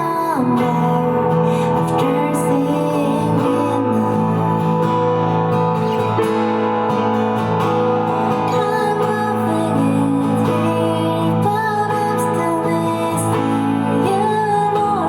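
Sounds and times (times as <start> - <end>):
person singing: 0.0 - 6.4, 8.3 - 15.0
guitar accompaniment: 0.0 - 15.0.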